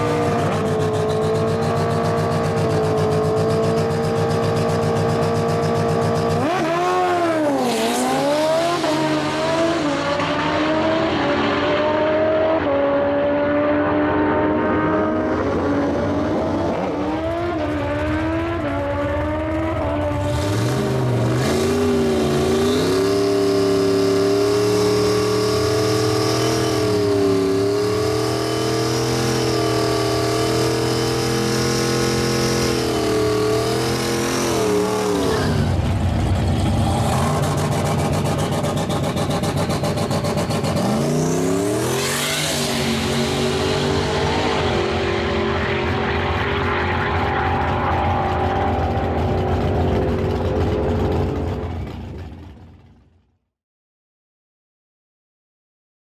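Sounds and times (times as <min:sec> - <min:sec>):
race car engine at high revs: 0:00.0 - 0:52.8.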